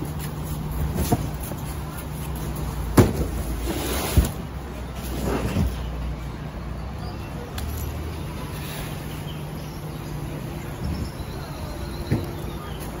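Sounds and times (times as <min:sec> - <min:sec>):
busy market street ambience: 0:00.0 - 0:13.0.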